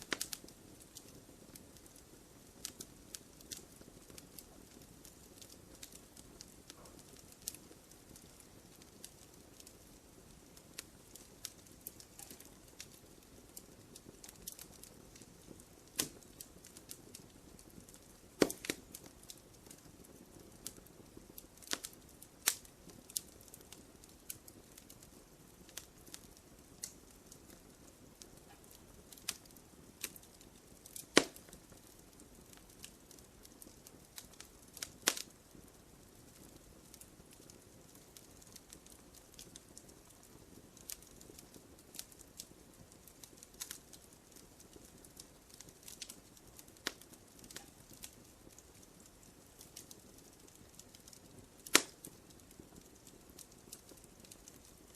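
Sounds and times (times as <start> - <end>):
faint steady hiss: 0.0 - 54.9
wood fire crackling: 0.0 - 54.9.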